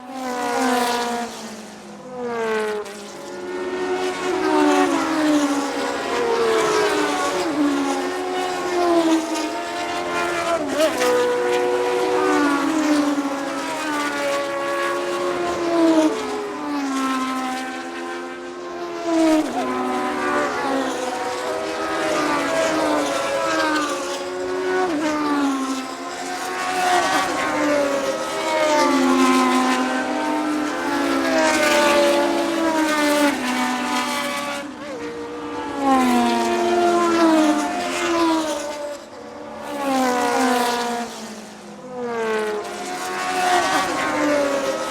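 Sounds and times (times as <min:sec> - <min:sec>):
racing cars passing: 0:00.1 - 0:44.9.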